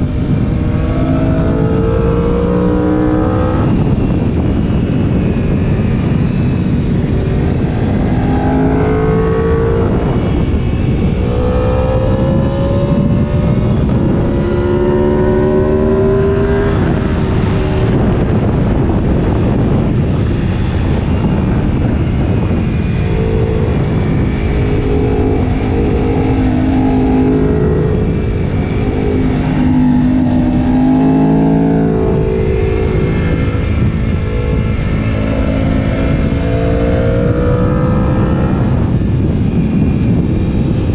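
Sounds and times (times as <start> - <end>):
motorcycle engine accelerating: 0.0 - 40.9
wind buffeting microphone: 0.0 - 40.9.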